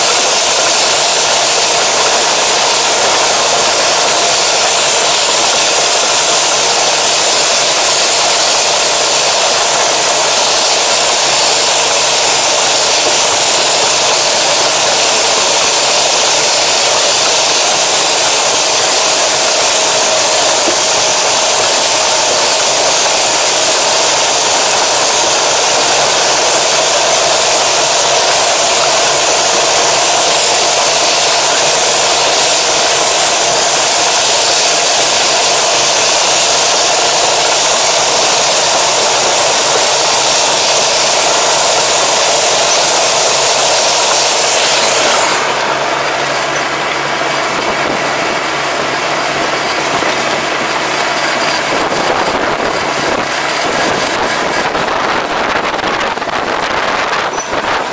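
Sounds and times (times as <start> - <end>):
tractor engine drone: 0.0 - 57.9.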